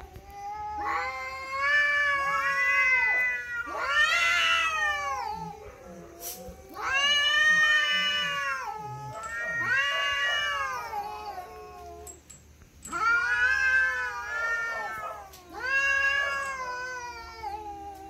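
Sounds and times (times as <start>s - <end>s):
cats yowling: 0.0s - 18.0s.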